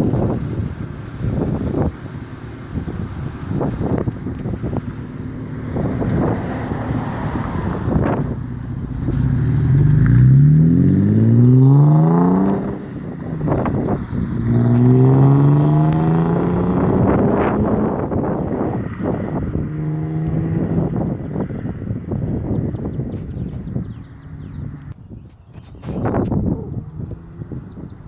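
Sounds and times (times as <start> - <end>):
car engine accelerating hard: 0.0 - 25.0
wind noise: 0.0 - 28.0.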